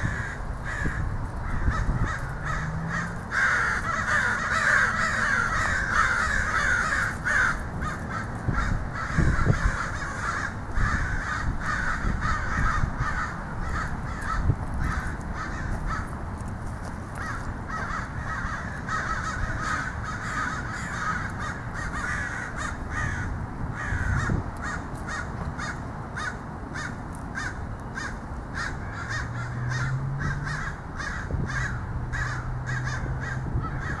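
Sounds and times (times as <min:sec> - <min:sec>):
crows cawing: 0:00.0 - 0:16.2, 0:17.1 - 0:34.0.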